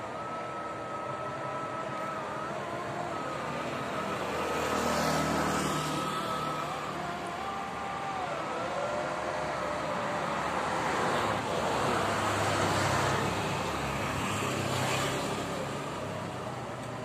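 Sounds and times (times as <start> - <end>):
distant traffic noise: 0.0 - 17.0
car passing: 0.6 - 17.0.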